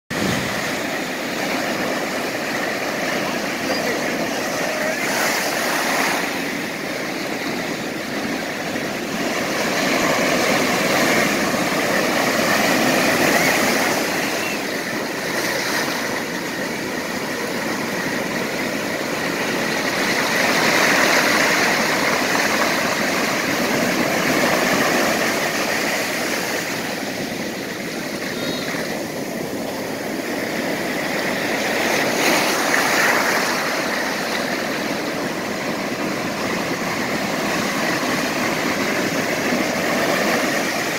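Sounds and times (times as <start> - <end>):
waves breaking on shore: 0.1 - 40.9.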